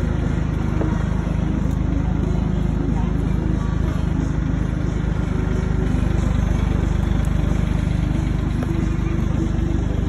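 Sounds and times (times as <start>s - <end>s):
tractor engine chugging: 0.0s - 10.0s.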